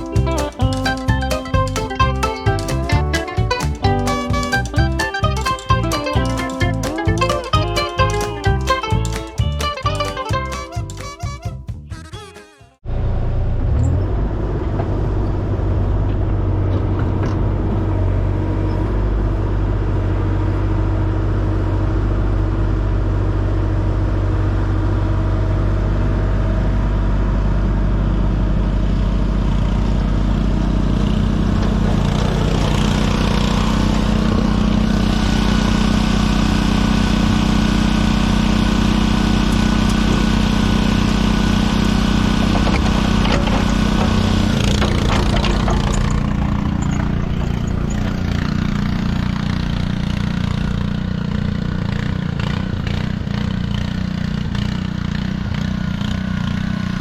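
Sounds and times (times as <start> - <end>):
heavy machinery engine running: 0.0 - 11.4, 12.9 - 57.0.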